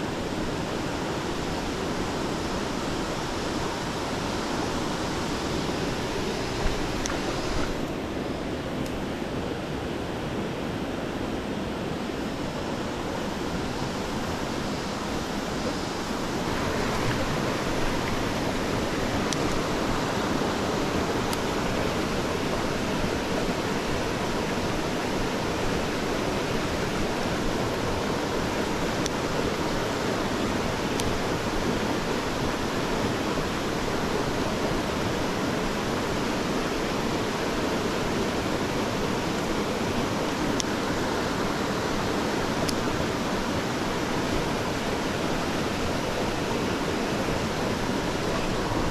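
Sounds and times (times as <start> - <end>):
stream water rushing over rocks: 0.0 - 48.9.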